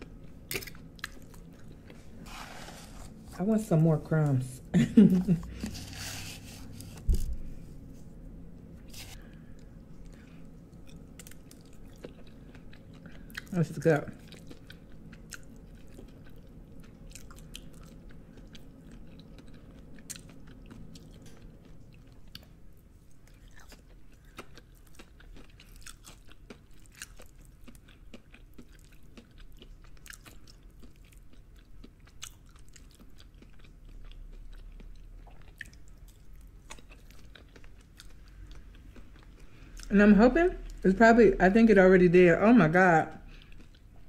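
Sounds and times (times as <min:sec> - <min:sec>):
wet chewing with crunches: 0:00.0 - 0:03.4, 0:08.8 - 0:39.9, 0:43.2 - 0:44.0.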